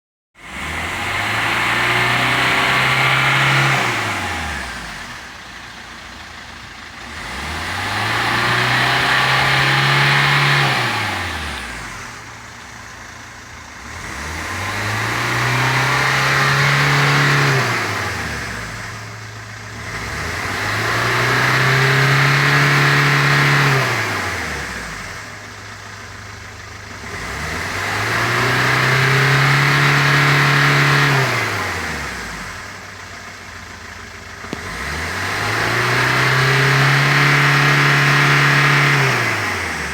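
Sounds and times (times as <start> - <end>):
diesel engine revving: 0.4 - 39.9.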